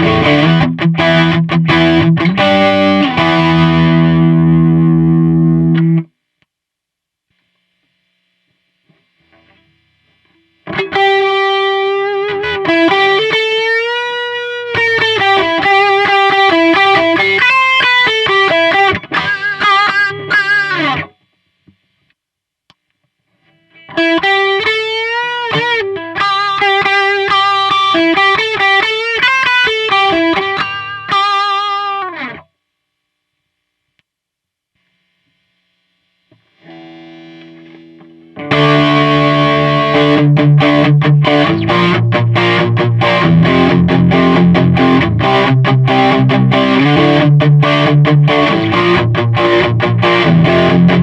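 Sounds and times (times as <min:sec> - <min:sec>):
overdriven electric guitar lead: 0:00.0 - 0:06.1, 0:08.9 - 0:21.9, 0:23.4 - 0:32.4, 0:36.3 - 0:51.0.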